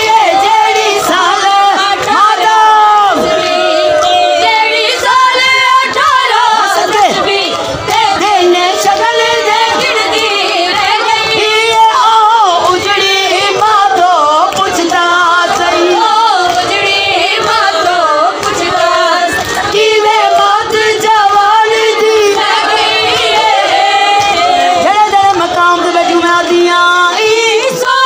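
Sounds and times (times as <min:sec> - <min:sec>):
woman chanting a lament: 0:00.0 - 0:22.5, 0:24.5 - 0:28.0.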